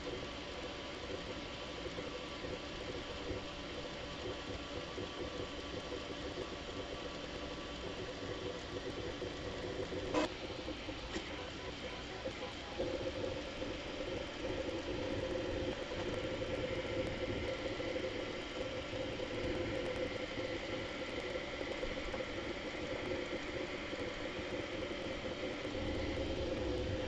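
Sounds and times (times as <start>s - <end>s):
printer motors and fans whirring: 0.0s - 27.0s.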